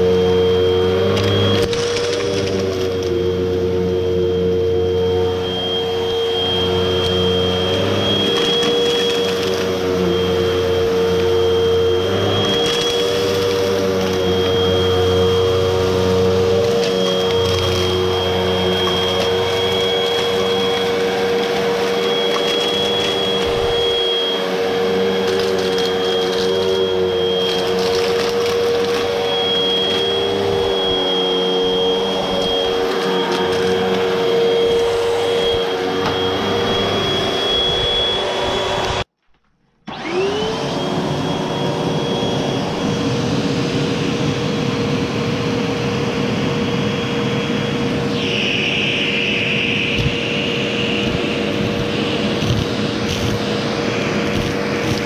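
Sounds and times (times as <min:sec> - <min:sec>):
vacuum cleaner whining hum: 0:00.0 - 0:55.0.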